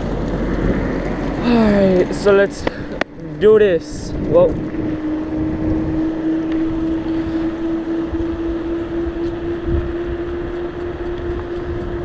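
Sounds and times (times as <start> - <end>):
steady hum: 0.0 - 12.0
wind buffeting microphone: 0.0 - 12.0.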